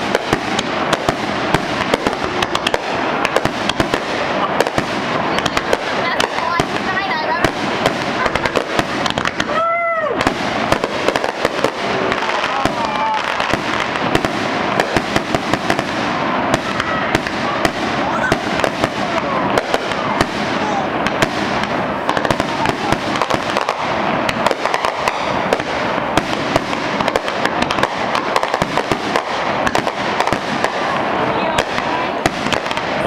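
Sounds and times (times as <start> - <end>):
fireworks bursting and crackling: 0.0 - 33.0.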